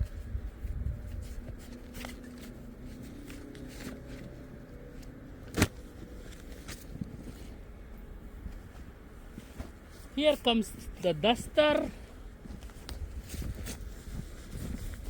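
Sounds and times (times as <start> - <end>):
wind rumble on microphone: 0.0 - 9.9, 12.2 - 15.0
faint steady hum: 0.0 - 15.0.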